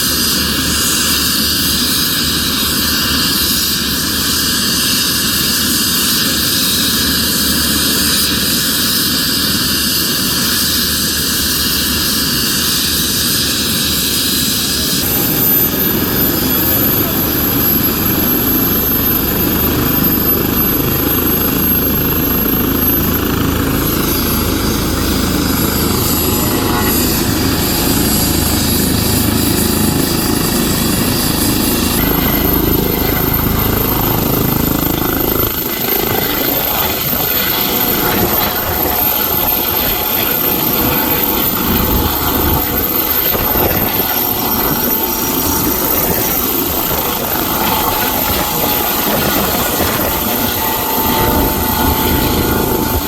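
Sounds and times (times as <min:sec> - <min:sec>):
helicopter running: 0:00.0 - 0:53.0
thin high whine: 0:00.0 - 0:53.0.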